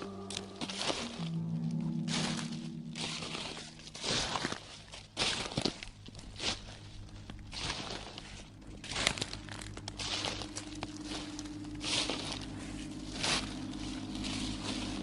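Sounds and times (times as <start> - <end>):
crunching rustling hits: 0.0 - 15.0
held low tone: 0.0 - 15.0
low drone: 0.0 - 15.0.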